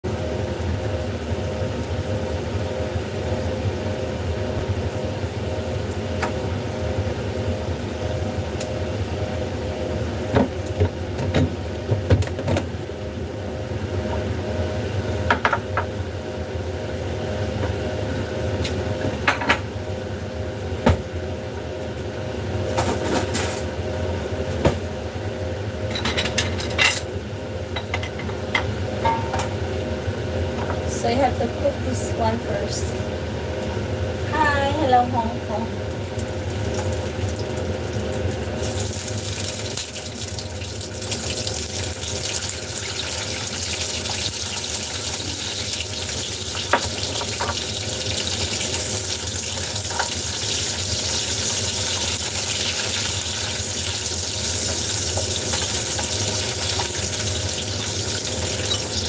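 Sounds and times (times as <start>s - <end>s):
range hood exhaust fan hum: 0.0s - 59.0s.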